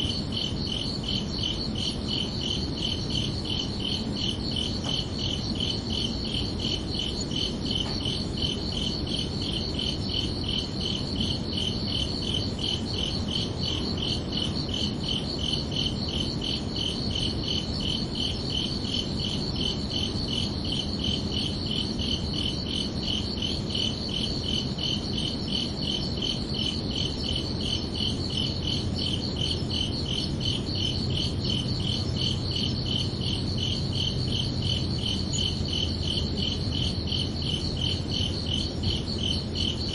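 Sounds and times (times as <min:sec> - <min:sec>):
crickets chirping: 0:00.0 - 0:39.9
low background rumble: 0:00.0 - 0:39.9.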